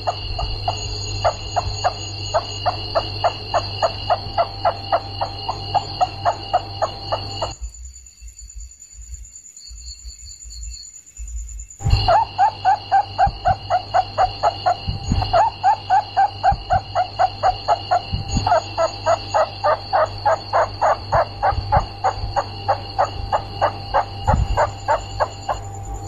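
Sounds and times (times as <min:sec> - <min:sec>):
rat squeaking: 0:00.0 - 0:07.6, 0:11.8 - 0:25.8
low hum: 0:00.0 - 0:08.6, 0:11.8 - 0:26.0
high-pitched ringing: 0:00.0 - 0:08.8, 0:11.8 - 0:26.0.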